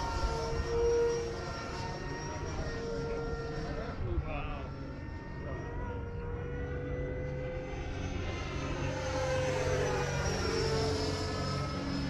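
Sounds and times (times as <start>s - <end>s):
electric jet fan whine: 0.0s - 12.0s.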